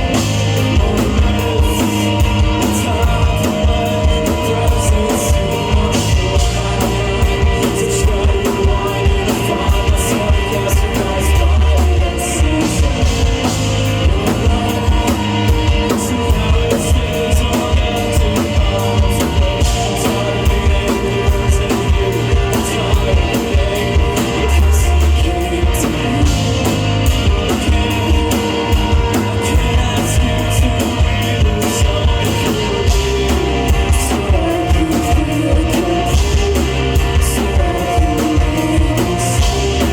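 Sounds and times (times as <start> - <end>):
drum kit beat: 0.0 - 39.9
guitars: 0.0 - 39.9
person singing: 0.0 - 39.9.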